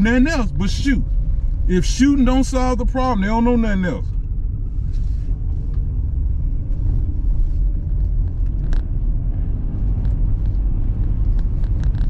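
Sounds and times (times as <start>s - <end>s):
car tyres and engine rumble: 0.0s - 12.0s.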